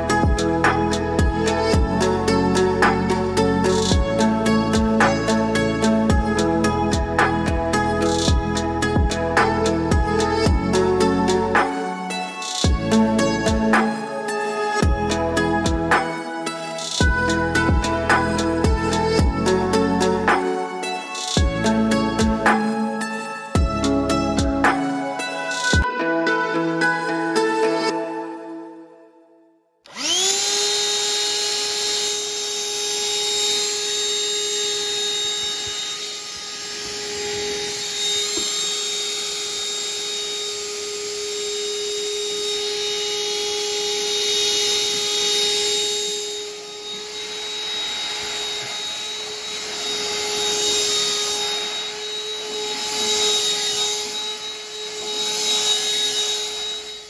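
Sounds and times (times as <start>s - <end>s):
handheld vacuum whining: 0.0s - 25.9s, 29.9s - 57.0s.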